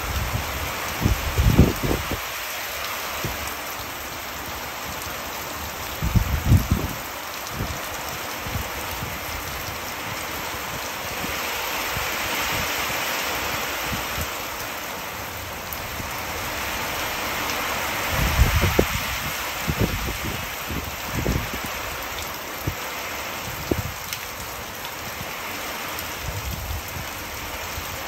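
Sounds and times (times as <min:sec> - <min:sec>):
heavy rain on concrete roof: 0:00.0 - 0:28.0.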